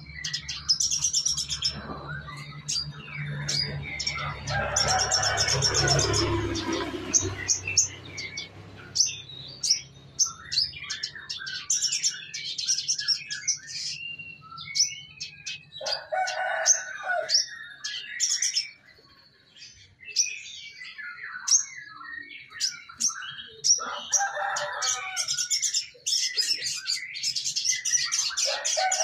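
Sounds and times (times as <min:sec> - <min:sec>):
canary chirping and trilling: 0:00.0 - 0:29.0.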